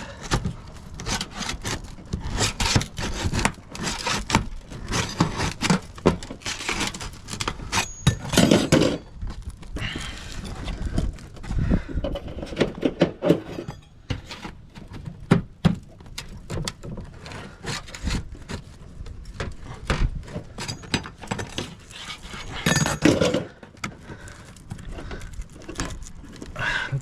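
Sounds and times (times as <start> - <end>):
roof shingles scraping and tearing: 0.0 - 26.8.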